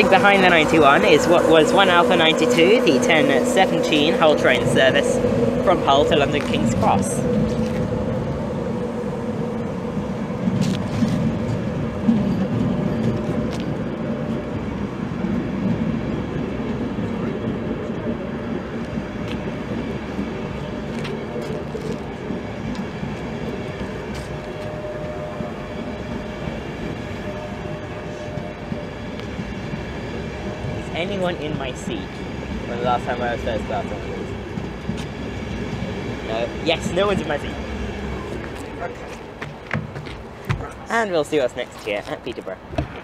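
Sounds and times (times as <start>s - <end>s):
diesel train running past: 0.0s - 43.0s.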